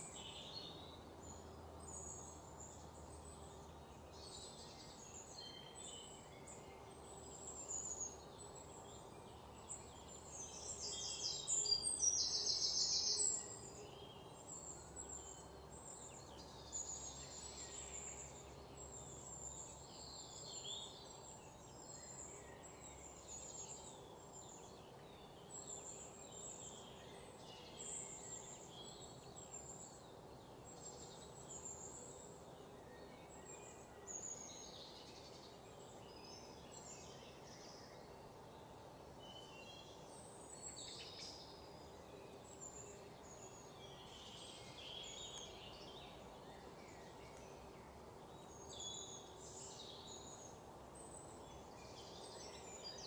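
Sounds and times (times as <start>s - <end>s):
low background hiss: 0.0s - 53.0s
small birds chirping: 0.0s - 53.0s.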